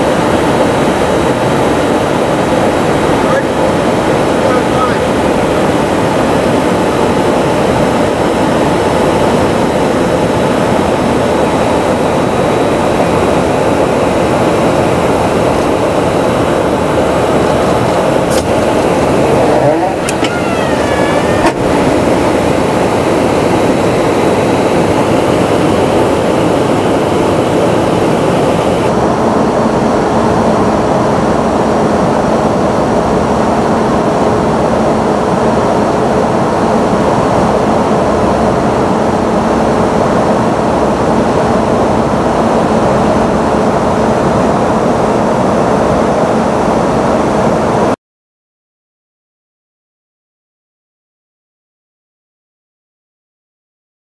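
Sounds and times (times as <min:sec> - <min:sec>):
jet engine rush in cabin: 0:00.0 - 0:48.0.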